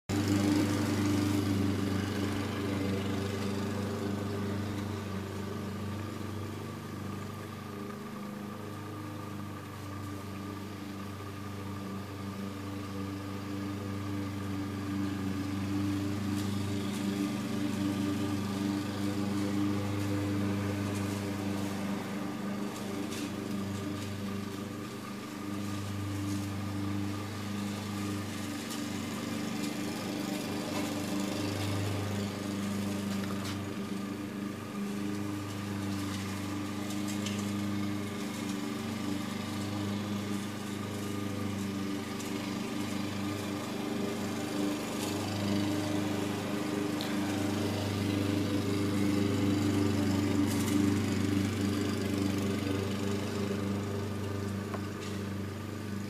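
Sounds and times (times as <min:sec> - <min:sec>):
small engine humming: 0:00.0 - 0:56.0.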